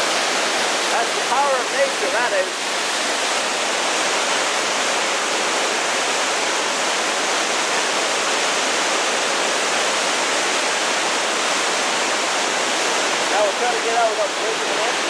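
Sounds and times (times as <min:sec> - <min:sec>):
waterfall crashing: 0:00.0 - 0:15.0.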